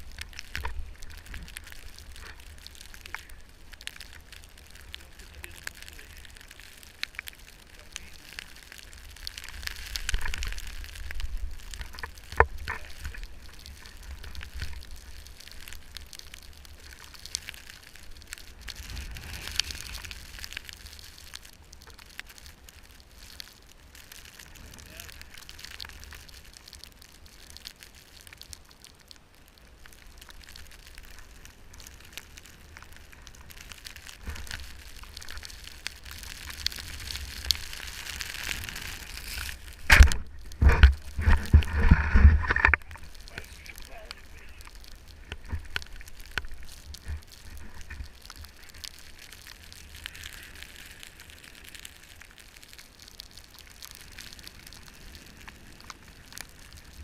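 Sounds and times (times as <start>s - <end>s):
wind and snow hissing on microphone: 0.0s - 28.8s, 29.4s - 57.0s
low wind rumble: 0.0s - 57.0s.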